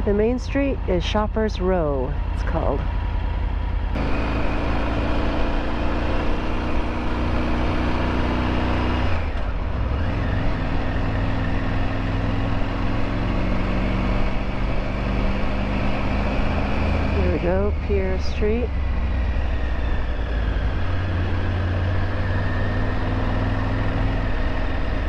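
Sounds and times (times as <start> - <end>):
motorcycle engine running: 0.0 - 25.0
road and wind rumble: 0.0 - 25.0.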